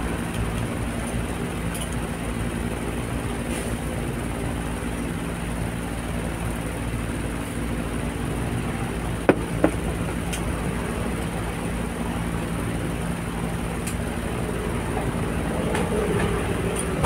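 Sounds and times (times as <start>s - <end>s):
rumbling background with low hum: 0.0s - 17.0s.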